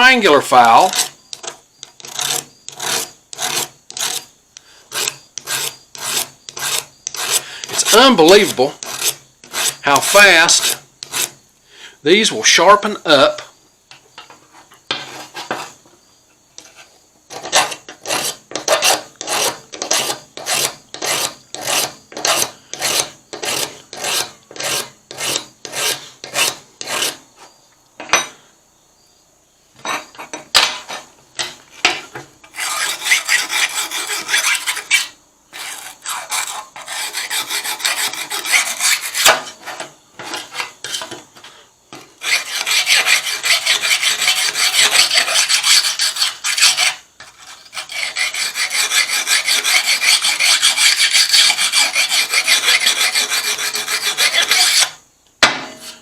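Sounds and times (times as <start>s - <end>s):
file scraping shears blade: 0.0s - 4.3s, 4.9s - 11.4s, 16.6s - 27.2s, 29.9s - 41.2s, 42.2s - 55.0s, 55.7s - 56.0s.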